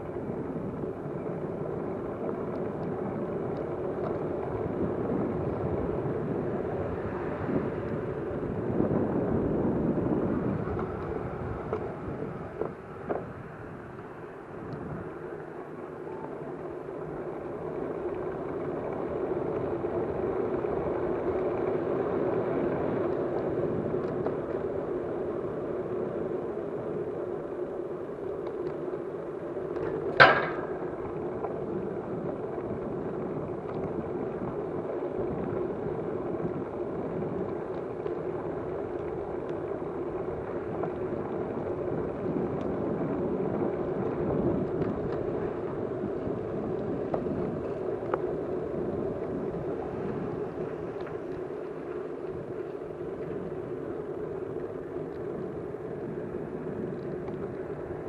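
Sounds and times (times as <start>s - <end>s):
moving vehicle running noise: 0.0s - 58.0s.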